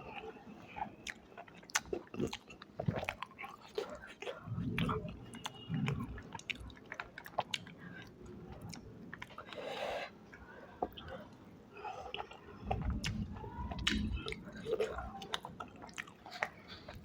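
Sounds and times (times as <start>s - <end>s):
person chewing: 0.0s - 10.1s, 10.8s - 17.0s
food crunching: 0.8s - 9.7s, 10.8s - 17.0s.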